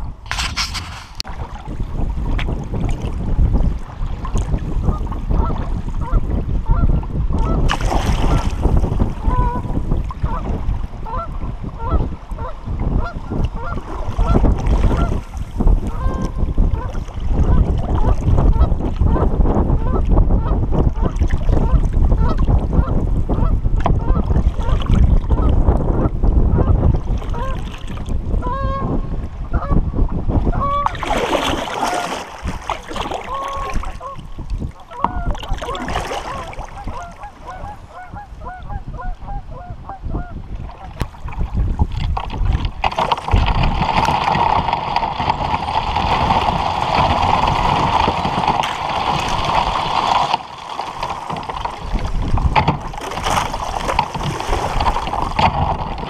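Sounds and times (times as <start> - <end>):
wind buffeting microphone: 0.0 - 56.0
water slapping against kayak hull: 0.2 - 56.0.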